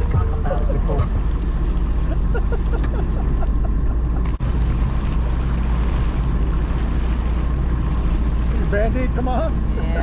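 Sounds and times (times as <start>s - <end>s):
jet ski engine droning: 0.0s - 10.0s.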